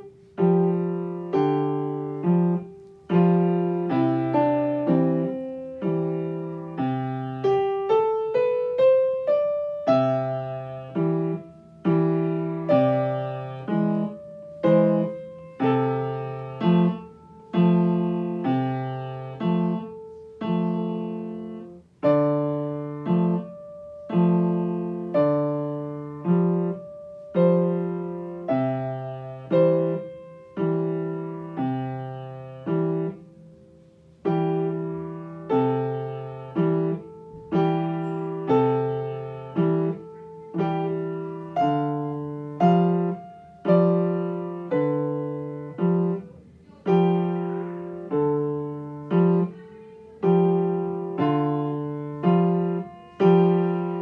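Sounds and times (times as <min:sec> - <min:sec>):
child playing slow piano piece: 0:00.0 - 0:54.0.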